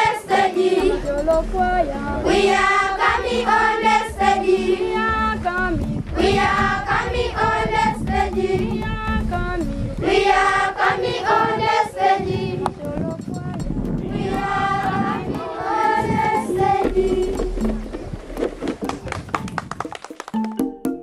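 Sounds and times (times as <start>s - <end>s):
girls choir singing: 0.0s - 17.8s.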